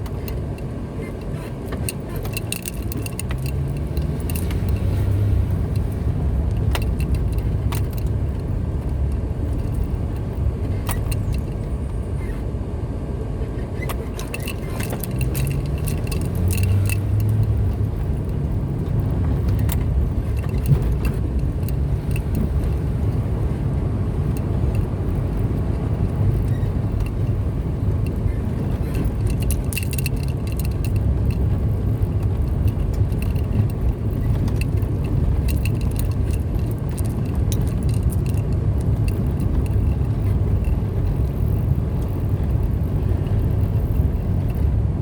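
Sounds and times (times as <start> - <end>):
light ticks and rattles: 0.0 - 12.4, 13.7 - 45.0
car engine and tyres rumbling: 0.0 - 45.0.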